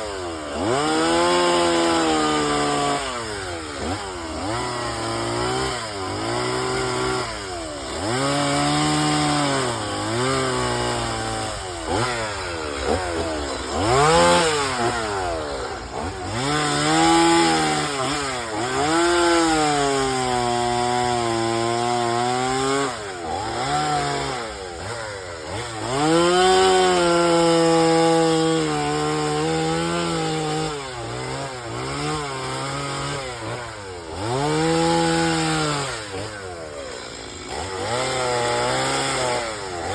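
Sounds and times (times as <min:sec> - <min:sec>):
chainsaw revving cutting wood: 0:00.0 - 0:39.9.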